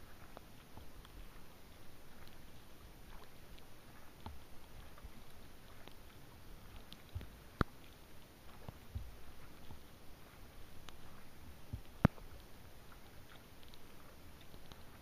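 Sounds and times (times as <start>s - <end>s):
soft hiss of rain: 0.0s - 15.0s
raindrops tapping on kayak deck: 0.1s - 15.0s.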